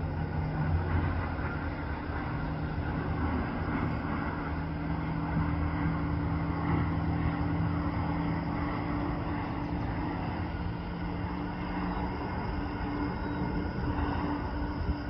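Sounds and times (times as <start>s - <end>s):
broad rushing noise: 0.0s - 15.0s
engine drone with low hums: 0.0s - 15.0s.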